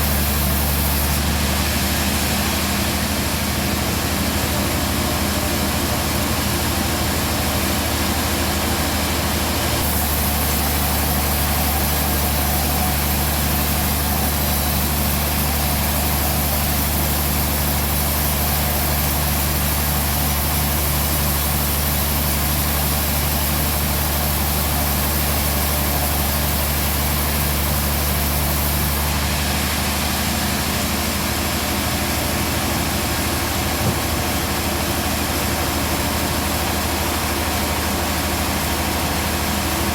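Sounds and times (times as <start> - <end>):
sawmill motor hum: 0.0 - 39.9.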